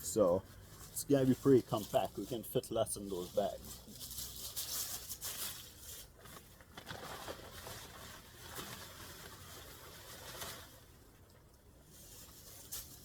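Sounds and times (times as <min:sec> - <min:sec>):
dry leaves rustling and crackling: 0:00.0 - 0:10.9.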